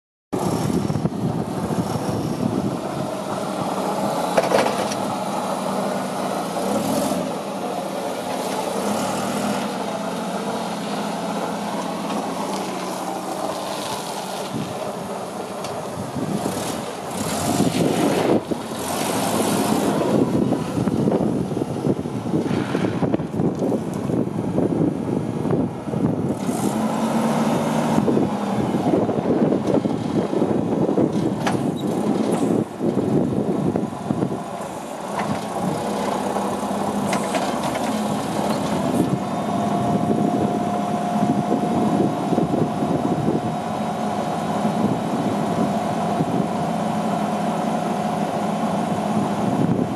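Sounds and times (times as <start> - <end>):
forklift engine running: 0.4 - 49.9.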